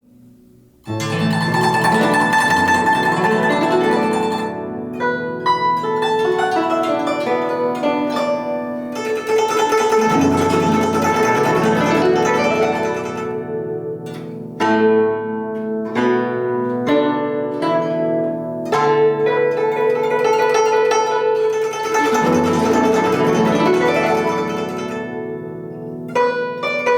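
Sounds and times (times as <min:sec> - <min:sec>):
plucked zither-like string music: 0:00.0 - 0:26.9.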